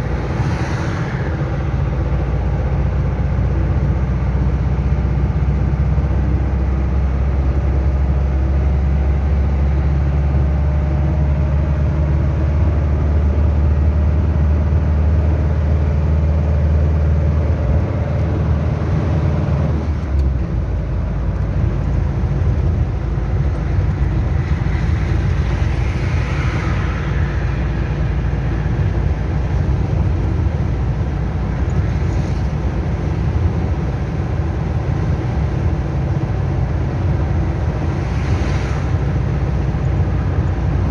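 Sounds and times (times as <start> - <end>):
diesel engine low drone: 0.0 - 40.9.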